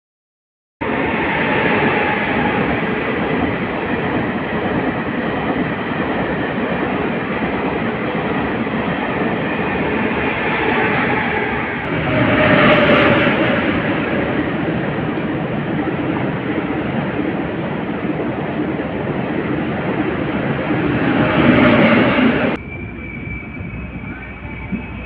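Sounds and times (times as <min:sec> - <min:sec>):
train wheels rumbling on rail: 0:00.8 - 0:25.0.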